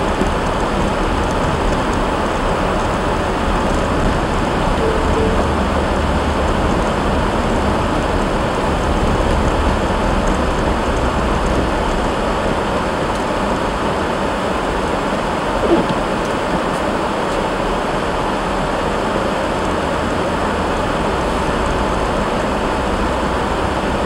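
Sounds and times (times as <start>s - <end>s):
engine and road rumble: 0.0s - 24.0s.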